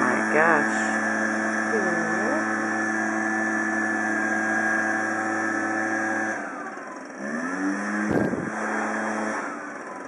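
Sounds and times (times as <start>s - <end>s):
leaf blower engine running: 0.0s - 10.0s.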